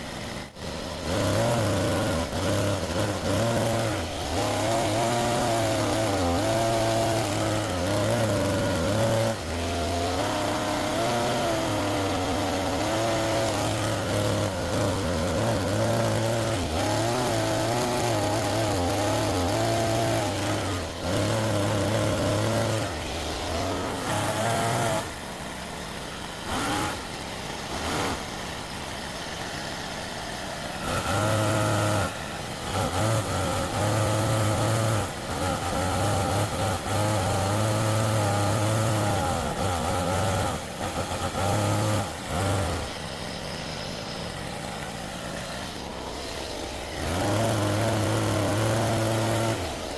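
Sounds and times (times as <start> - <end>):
toy excavator motors whining: 0.0 - 49.9.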